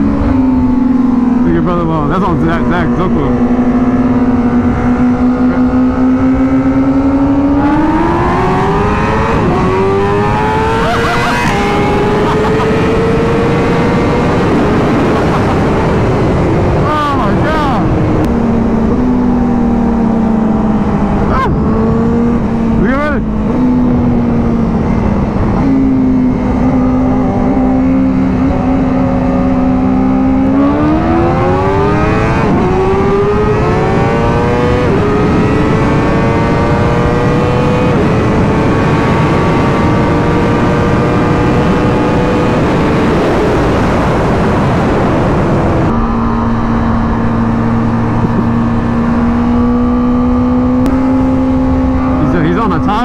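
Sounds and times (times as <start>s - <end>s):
motorcycle engine accelerating: 0.0s - 53.0s
rushing wind noise: 0.0s - 53.0s.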